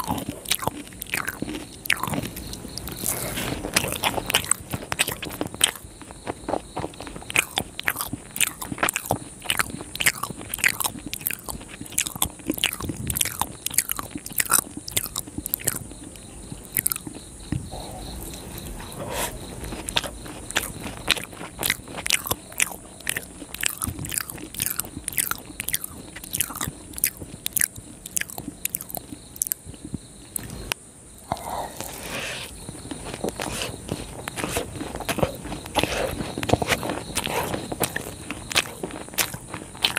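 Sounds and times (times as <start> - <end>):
sticky chewing mouth clicks: 0.0 - 39.9.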